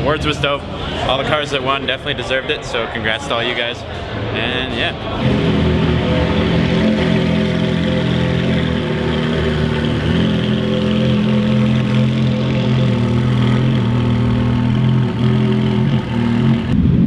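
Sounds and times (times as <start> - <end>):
car engines idling: 0.0 - 16.8.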